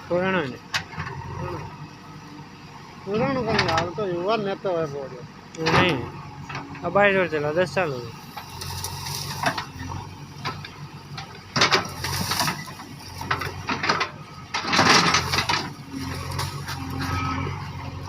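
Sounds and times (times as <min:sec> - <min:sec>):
backhoe engine hum: 0:00.0 - 0:18.0
working gear rattling and clanking: 0:03.0 - 0:18.0.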